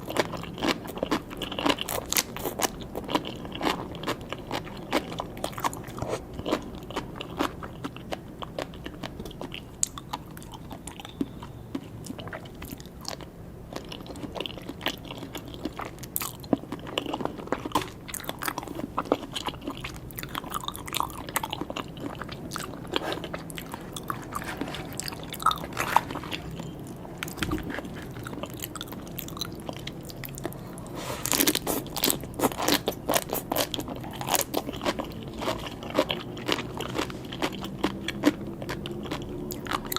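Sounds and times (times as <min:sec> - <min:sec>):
close-miked chewing crunchy food: 0:00.0 - 0:39.9.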